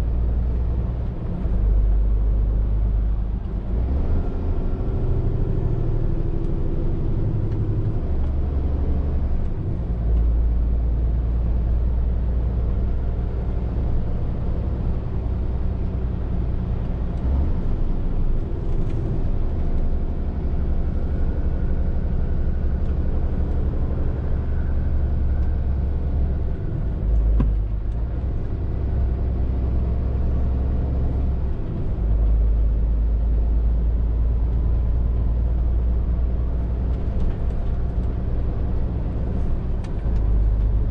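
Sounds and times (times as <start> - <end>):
lorry diesel engine droning: 0.0 - 40.9.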